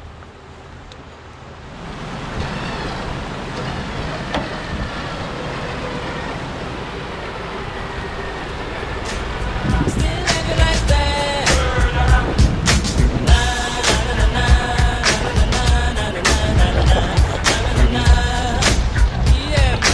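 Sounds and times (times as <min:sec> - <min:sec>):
rushing creek water: 0:00.0 - 0:19.9
vehicle engine under load: 0:00.0 - 0:19.9.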